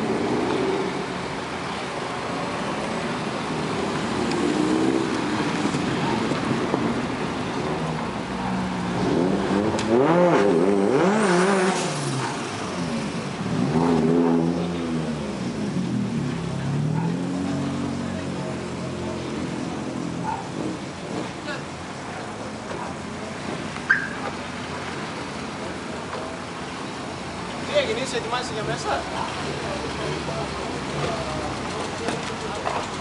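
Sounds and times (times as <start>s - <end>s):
cars driving past revving: 0.0s - 33.0s.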